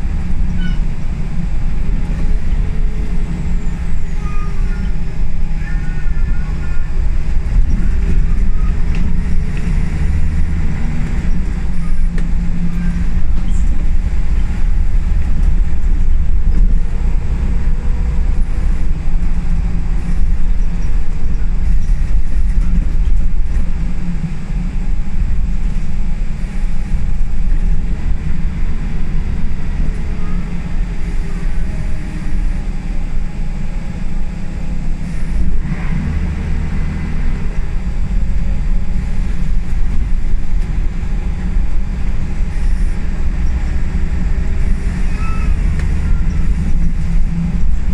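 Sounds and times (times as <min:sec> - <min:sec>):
bus engine and road rumble: 0:00.0 - 0:47.9
faint engine whine: 0:00.0 - 0:47.9.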